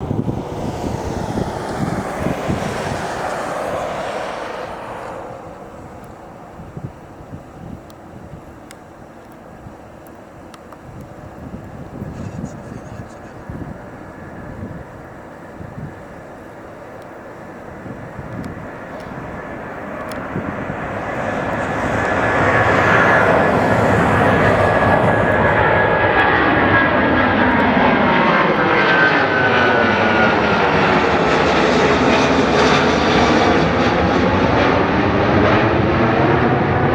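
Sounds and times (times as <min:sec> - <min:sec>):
jet engines at takeoff power: 0:00.0 - 0:36.9.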